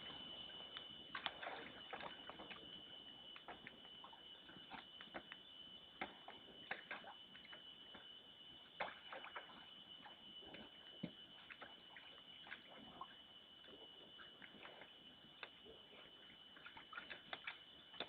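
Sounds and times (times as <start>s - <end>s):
steady high-pitched whine: 0.0s - 18.0s.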